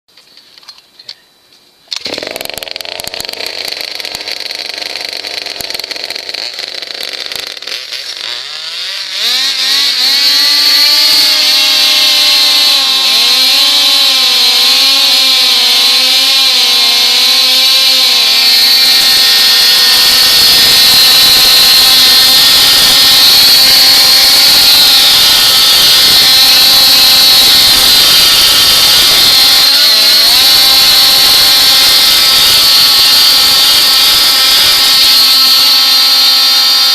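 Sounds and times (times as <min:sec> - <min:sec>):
rc car motor revving: 0:02.0 - 0:36.9.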